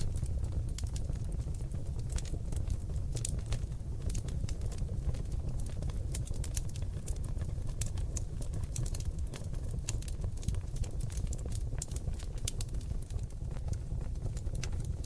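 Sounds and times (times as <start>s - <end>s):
logs crackling and popping: 0.0s - 15.0s
low rumble of fire: 0.0s - 15.0s.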